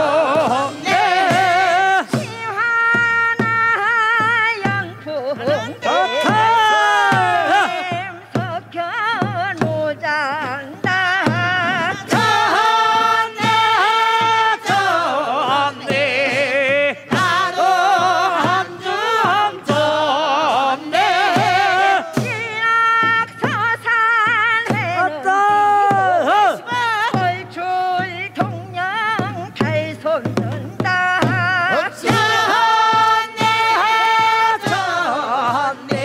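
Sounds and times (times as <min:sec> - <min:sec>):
drum strokes: 0:00.0 - 0:36.0
person singing work song with vibrato: 0:00.0 - 0:36.0.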